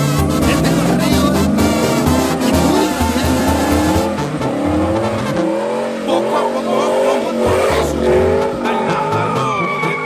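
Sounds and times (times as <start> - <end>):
engine revving hard: 0.0 - 10.0
tires squealing on pavement: 0.0 - 10.0.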